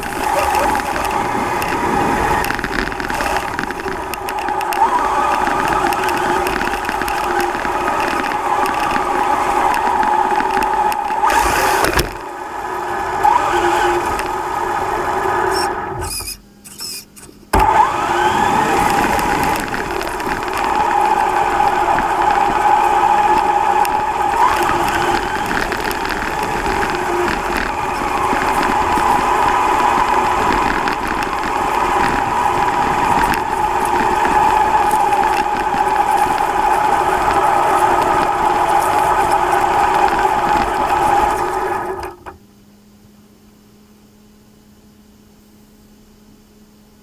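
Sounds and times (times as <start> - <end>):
electric motor whining: 0.0 - 42.4
tyre and chassis noise: 0.0 - 42.5.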